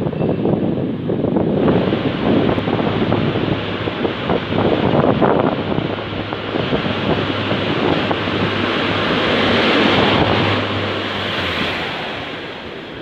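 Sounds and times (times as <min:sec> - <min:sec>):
low diesel engine drone: 0:00.0 - 0:13.0
train rolling noise: 0:00.0 - 0:13.0.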